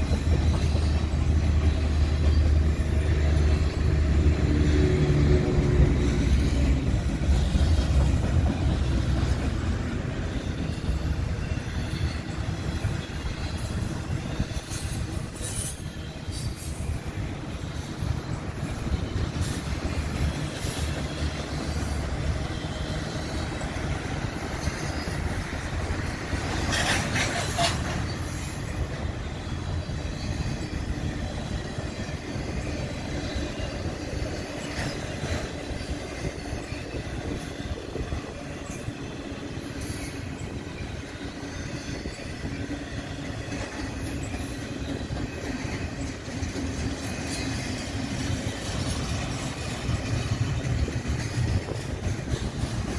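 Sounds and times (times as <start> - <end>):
freight train wheels rumbling: 0.0 - 52.9
metallic wheel screech: 9.2 - 52.9.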